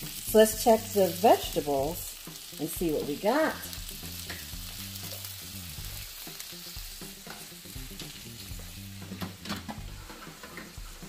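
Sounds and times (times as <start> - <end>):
food sizzling in oven: 0.0 - 11.0.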